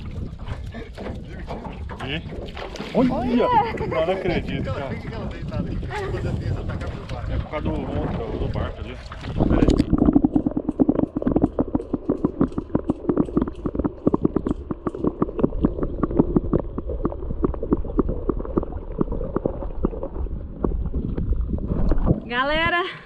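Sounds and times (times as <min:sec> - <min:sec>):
water sloshing underwater: 0:00.0 - 0:23.0.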